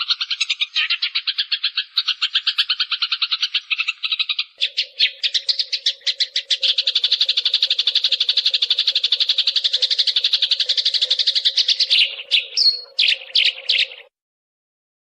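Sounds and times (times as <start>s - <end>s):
sparrows chirping: 0.0s - 14.1s.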